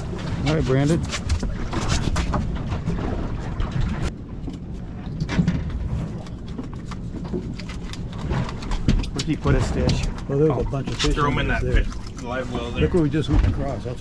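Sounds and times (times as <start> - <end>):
knocks and clicks on a boat: 0.0 - 11.9, 13.1 - 14.0
boat engine rumble: 0.0 - 14.0
water noise: 0.0 - 14.0
wind: 0.0 - 14.0.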